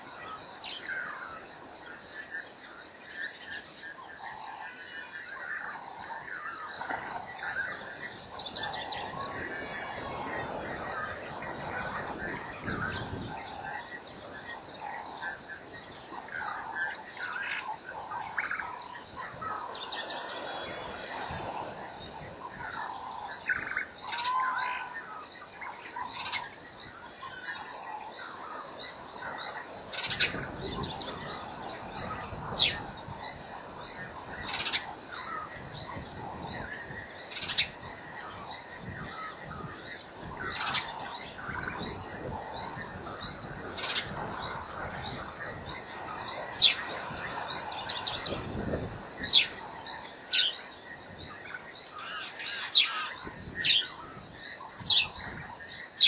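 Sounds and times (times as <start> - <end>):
birds chirping: 0.0 - 56.0
frogs croaking: 0.0 - 56.0.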